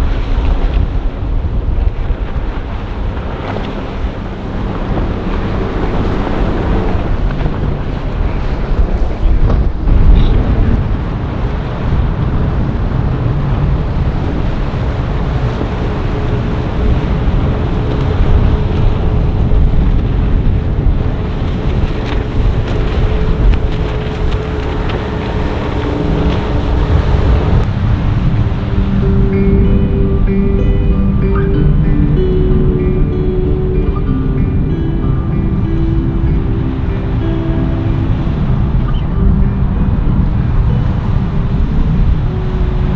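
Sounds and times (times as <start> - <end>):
motorboat engines running: 0.0 - 42.9
waves: 0.0 - 42.9
wind buffeting microphone: 0.0 - 42.9.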